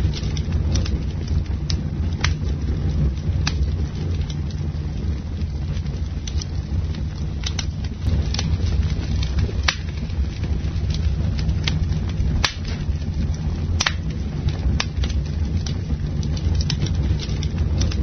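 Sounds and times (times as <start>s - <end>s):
low rumble of flames: 0.0s - 18.0s
wood crackling and popping: 0.0s - 18.0s.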